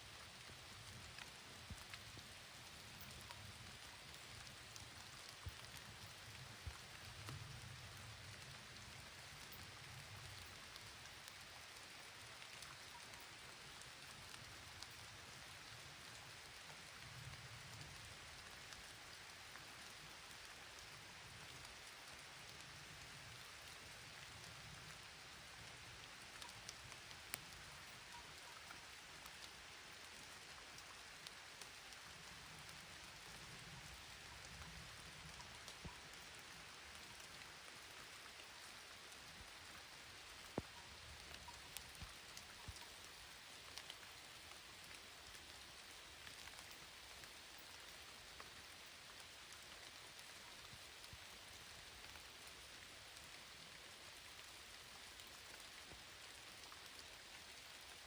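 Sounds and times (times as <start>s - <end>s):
faint rain: 0.0s - 58.0s.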